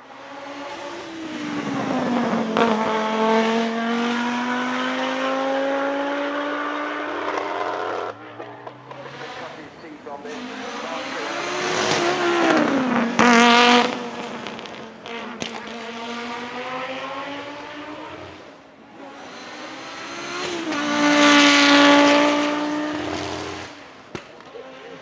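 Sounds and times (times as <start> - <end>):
rally car engine accelerating past: 0.2 - 25.0.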